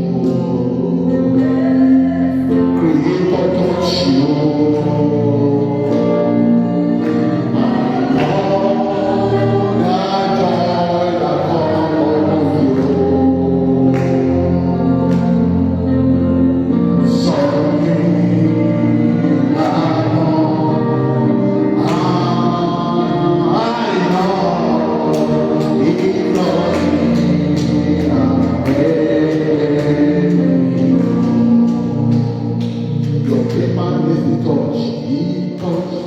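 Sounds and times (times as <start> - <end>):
choir singing gospel: 0.0 - 36.0.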